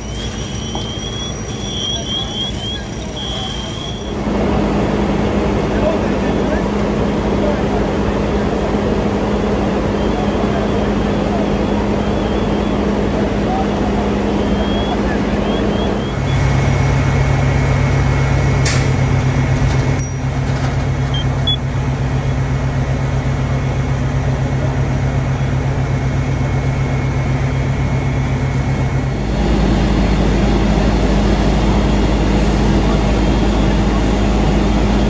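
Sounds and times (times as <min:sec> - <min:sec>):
fire truck engine droning: 0:00.0 - 0:35.0.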